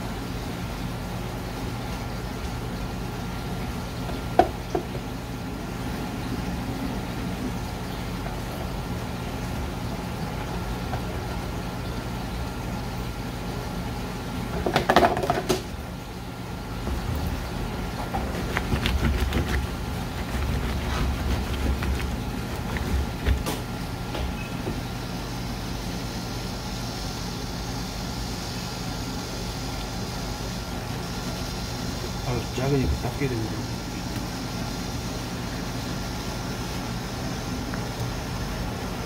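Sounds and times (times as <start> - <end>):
shop equipment humming: 0.0 - 39.0.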